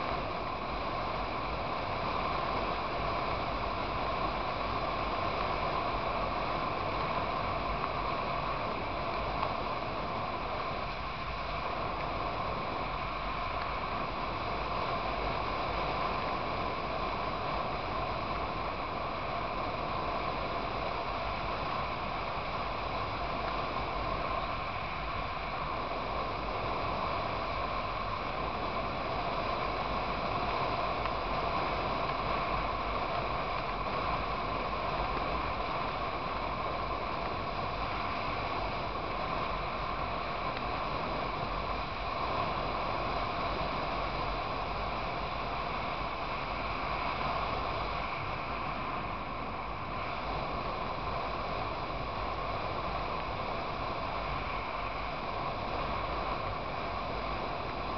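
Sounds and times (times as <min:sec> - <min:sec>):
wind and road noise: 0:00.0 - 0:57.9.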